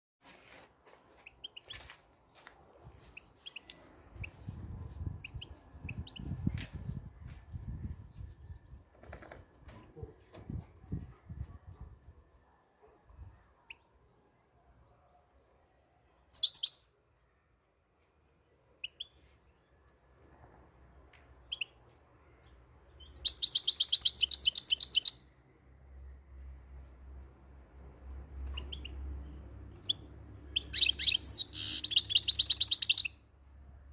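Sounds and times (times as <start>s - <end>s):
bird chirping: 1.1s - 17.0s, 18.0s - 33.9s.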